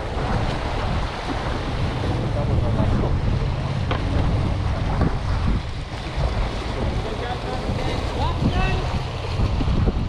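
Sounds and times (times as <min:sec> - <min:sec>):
water splashing: 0:00.0 - 0:10.0
wind buffeting microphone: 0:00.0 - 0:10.0.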